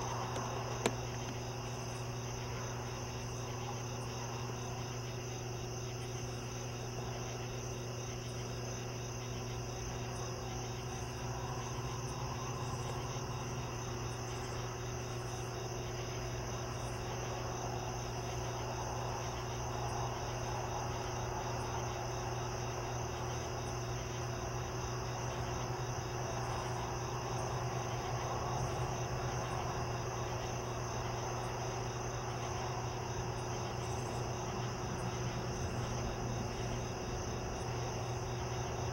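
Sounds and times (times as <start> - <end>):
constant low hum: 0.0 - 38.9
crickets chirping: 0.0 - 38.9.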